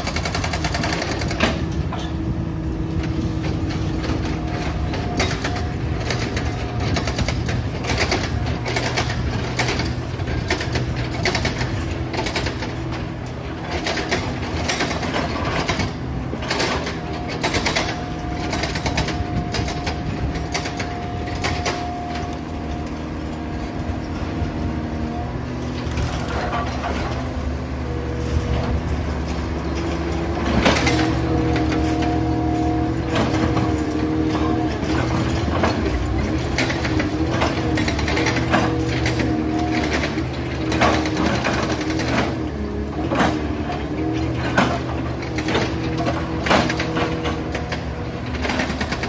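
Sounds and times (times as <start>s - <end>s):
excavator diesel engine running: 0.0s - 49.0s
hydraulic whine: 0.0s - 49.0s.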